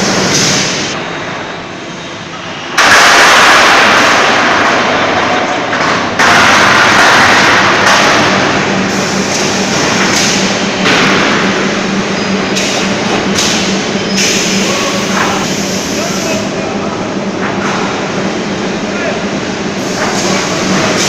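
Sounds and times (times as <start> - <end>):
loud rushing machine noise: 0.0 - 21.0
steady hum: 0.0 - 21.0.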